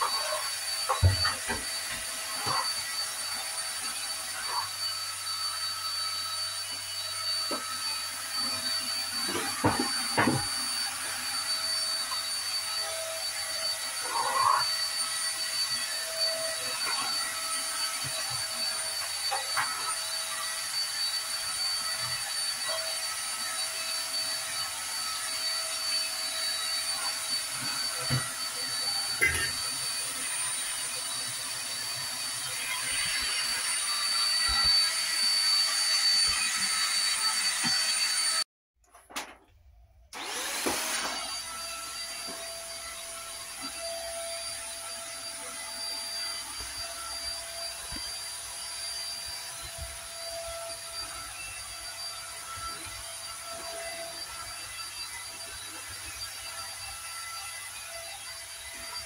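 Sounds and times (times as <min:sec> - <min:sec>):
vacuum cleaner running: 0:00.0 - 0:38.5, 0:40.1 - 0:59.0.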